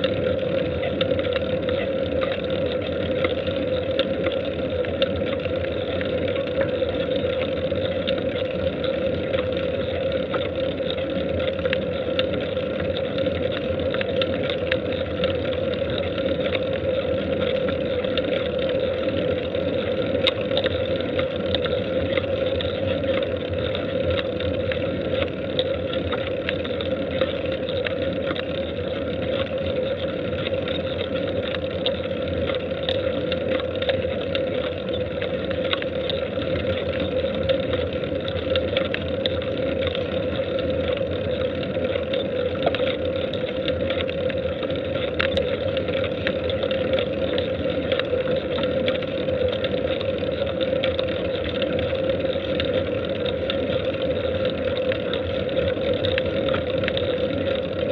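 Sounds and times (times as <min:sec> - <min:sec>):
bicycle road noise: 0:00.0 - 0:57.9
faint ticks from bumps: 0:00.0 - 0:57.9.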